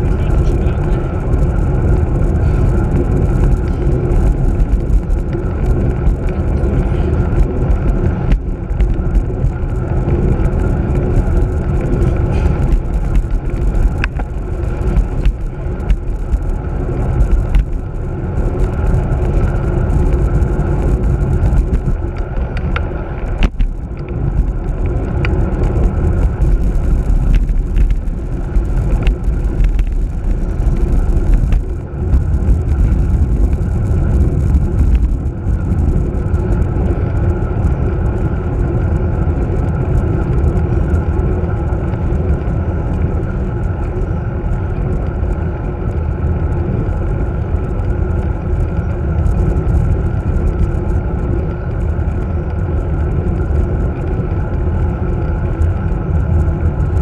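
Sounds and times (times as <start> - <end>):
tyre and road vibration: 0.0 - 57.0
wind rumbling on microphone: 0.0 - 57.0.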